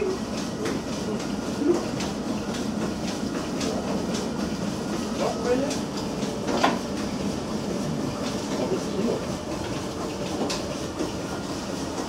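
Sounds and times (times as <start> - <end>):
steam engine running: 0.0 - 12.0.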